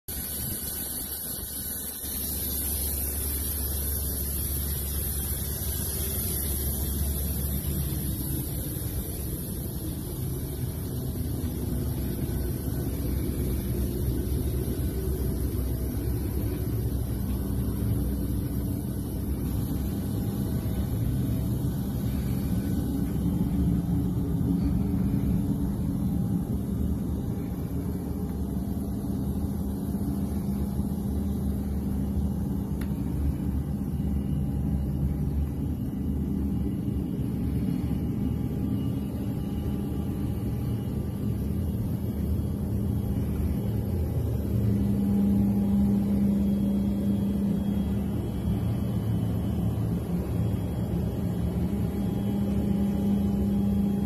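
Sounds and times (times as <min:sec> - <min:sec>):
faint hums: 0:00.1 - 0:54.0.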